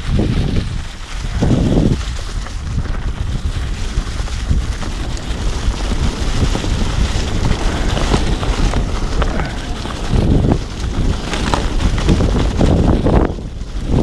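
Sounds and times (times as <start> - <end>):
bike clicks and rattles: 0.0 - 14.0
bike tyres rolling on leafy dirt: 0.0 - 14.0
wind noise on microphone: 0.0 - 14.0.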